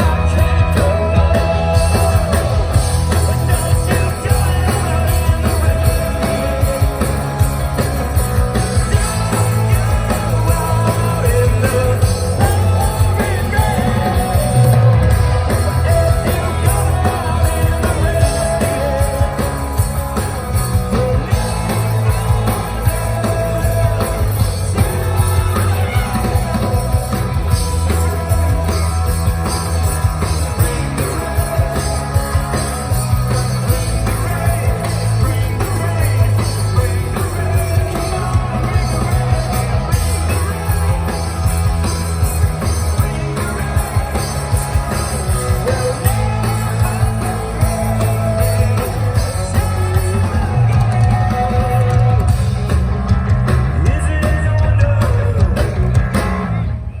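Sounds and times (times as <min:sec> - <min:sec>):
man singing: 0:00.0 - 0:52.8, 0:53.6 - 0:56.2
live rock song: 0:00.0 - 0:57.0.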